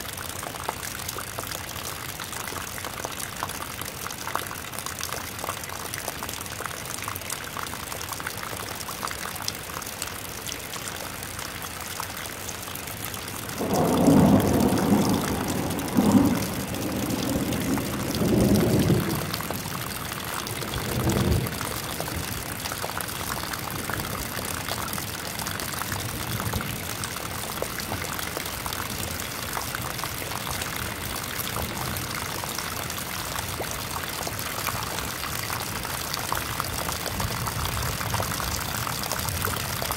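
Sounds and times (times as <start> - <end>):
rain pattering on water: 0.0 - 39.9.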